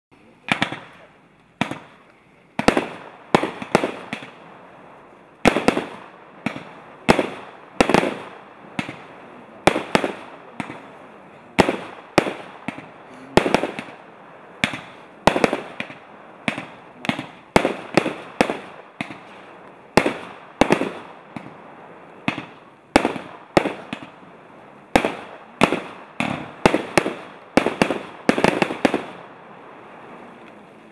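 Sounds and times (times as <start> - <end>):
firework launch and burst bangs: 0.4 - 4.6, 5.4 - 30.4.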